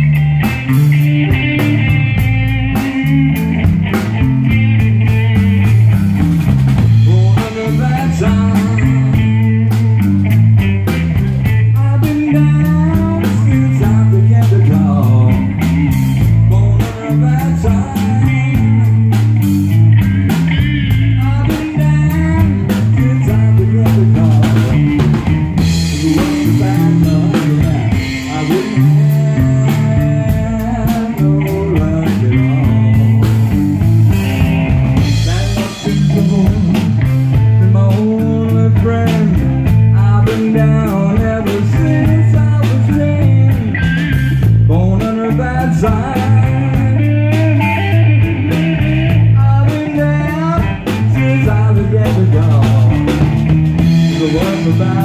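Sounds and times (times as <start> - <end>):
blues-rock band playing: 0.0 - 55.0
electric guitar: 0.0 - 55.0.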